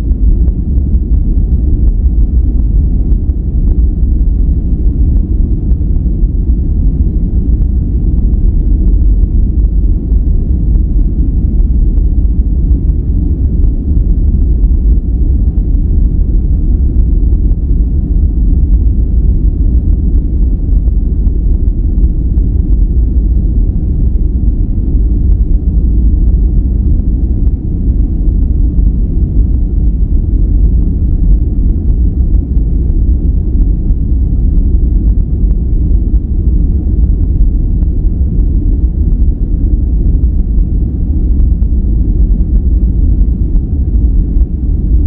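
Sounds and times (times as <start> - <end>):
deep rumbling noise: 0.0 - 45.0.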